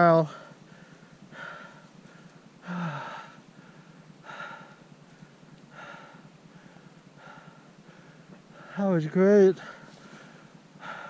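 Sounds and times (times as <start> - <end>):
person breathing hard: 0.2 - 8.8, 9.6 - 11.0.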